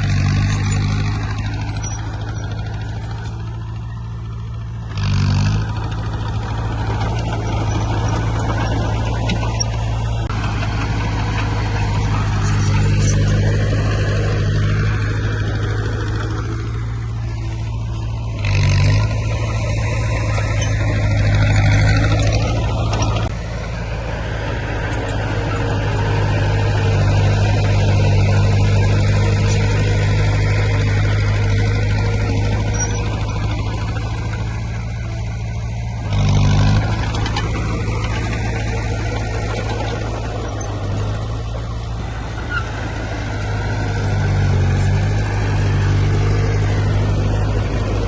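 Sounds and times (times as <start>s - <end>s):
heavy diesel engine under load: 0.0s - 48.0s.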